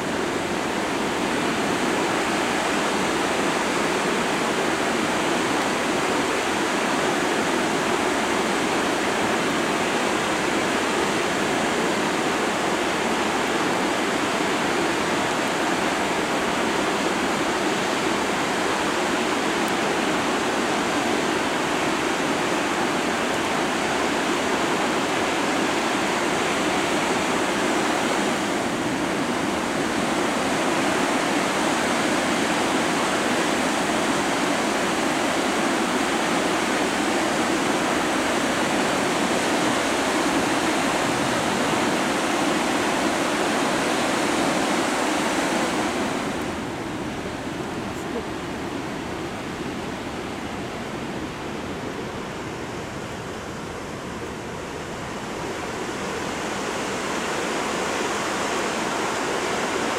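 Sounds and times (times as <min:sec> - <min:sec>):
floodwater rushing over falls: 0:00.0 - 0:59.9.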